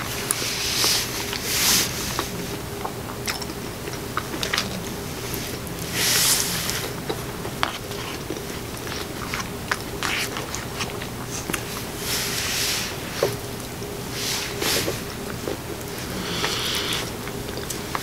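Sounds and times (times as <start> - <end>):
chewing: 0.0 - 12.5, 13.1 - 18.0
faint steady hum: 0.0 - 18.0.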